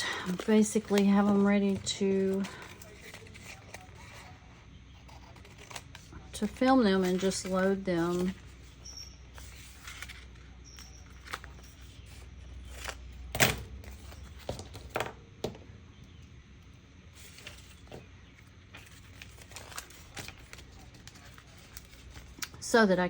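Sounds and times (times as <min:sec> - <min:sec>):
paper rustling: 0:00.0 - 0:15.0, 0:17.1 - 0:22.6.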